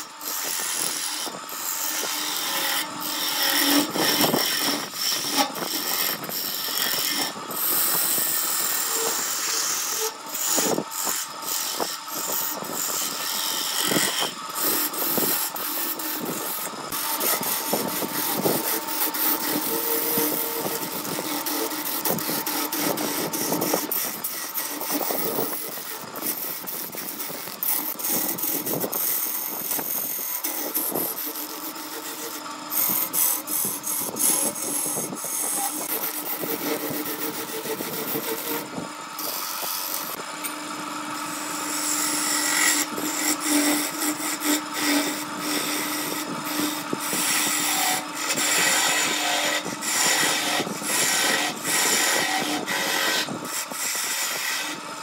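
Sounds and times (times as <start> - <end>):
lathe tool scraping wood: 0.0 - 55.0.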